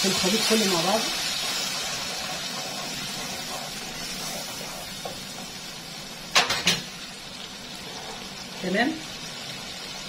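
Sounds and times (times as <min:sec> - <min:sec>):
sauce sizzling in hot oil: 0:00.0 - 0:10.0.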